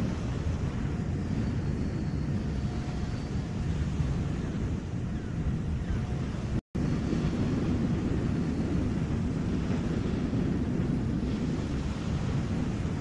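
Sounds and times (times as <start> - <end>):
small waves washing ashore: 0.0 - 13.0
wind on microphone: 0.0 - 13.0.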